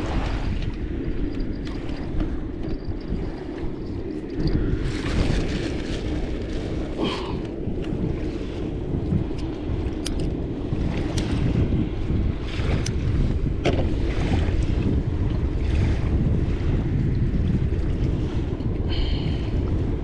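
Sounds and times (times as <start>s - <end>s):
sea waves: 0.0s - 20.0s
wind rumbling on microphone: 0.0s - 20.0s.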